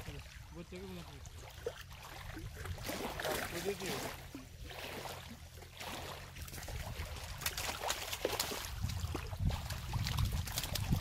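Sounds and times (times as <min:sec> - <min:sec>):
fish splashing in shallow water: 0:00.0 - 0:11.0.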